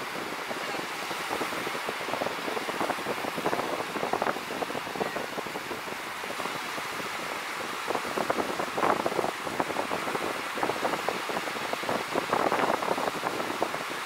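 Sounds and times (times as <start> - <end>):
surf breaking on shore: 0.0 - 14.0
wind on microphone: 0.0 - 14.0.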